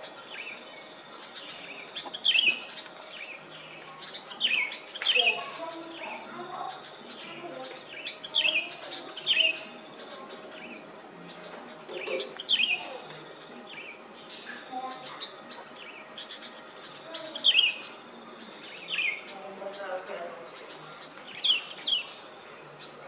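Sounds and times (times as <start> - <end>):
faint insect hum: 0.0 - 23.0
songbirds chirping: 0.0 - 23.0.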